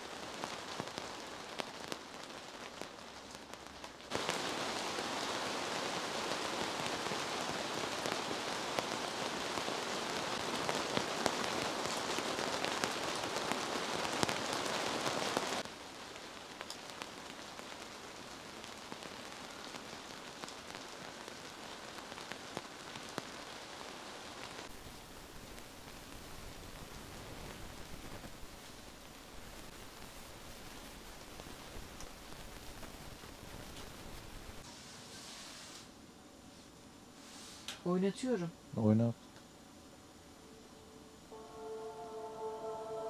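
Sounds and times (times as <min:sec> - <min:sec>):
heavy rain falling: 0:00.0 - 0:34.7.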